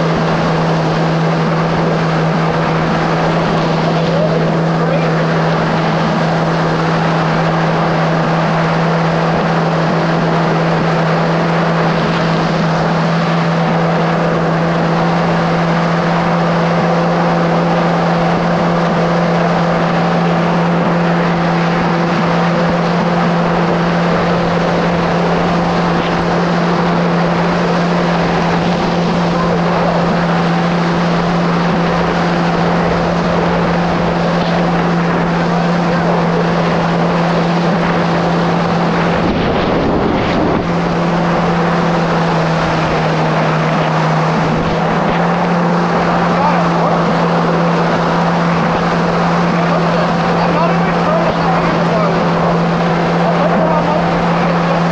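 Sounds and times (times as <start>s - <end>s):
jet ski engine running: 0.0s - 54.9s
water spray rushing: 0.0s - 54.9s.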